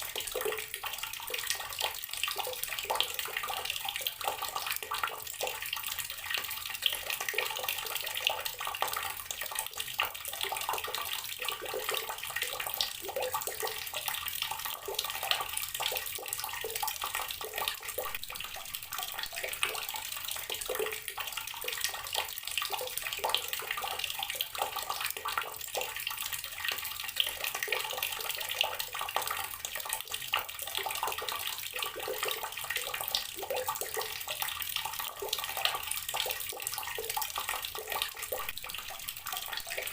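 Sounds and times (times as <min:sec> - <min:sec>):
water tap running and splashing: 0:00.0 - 0:39.9.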